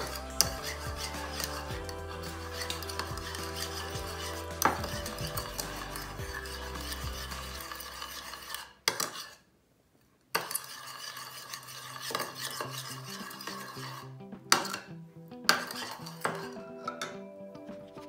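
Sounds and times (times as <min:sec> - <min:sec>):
spoon stirring in a ceramic bowl: 0:00.0 - 0:09.4, 0:10.3 - 0:14.8, 0:15.5 - 0:16.7.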